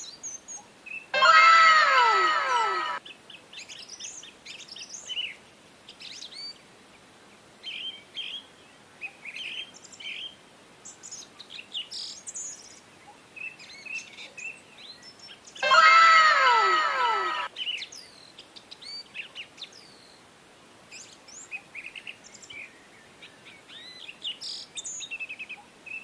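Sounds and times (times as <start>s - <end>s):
faint hiss: 3.0s - 15.6s, 17.4s - 26.0s.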